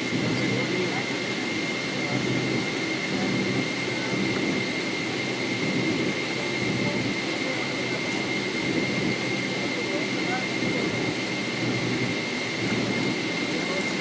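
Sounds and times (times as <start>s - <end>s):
jet engine noise: 0.0s - 14.0s
thin steady whine: 0.0s - 14.0s.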